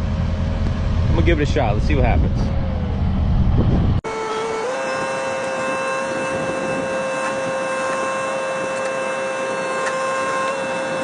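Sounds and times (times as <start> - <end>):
excavator engine and pump whining: 0.0 - 11.0.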